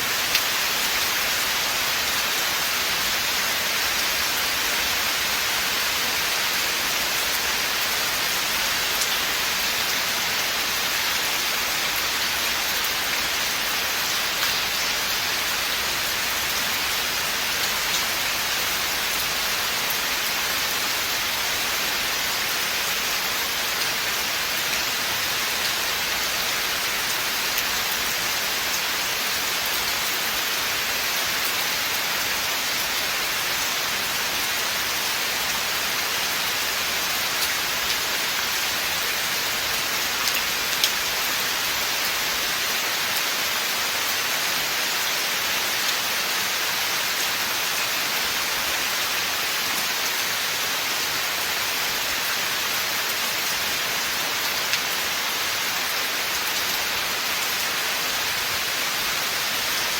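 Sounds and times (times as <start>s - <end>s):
rain falling in a forest: 0.0s - 59.9s.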